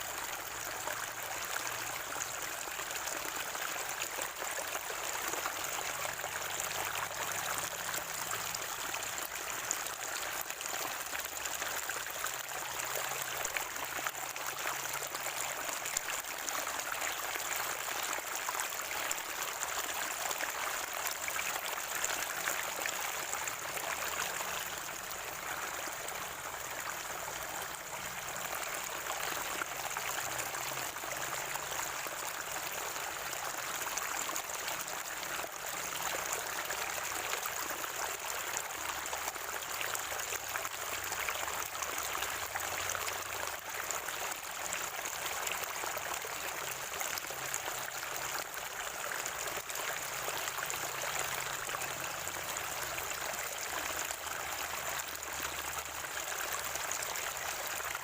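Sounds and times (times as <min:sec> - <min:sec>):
spring water flowing and gurgling: 0:00.0 - 0:58.0.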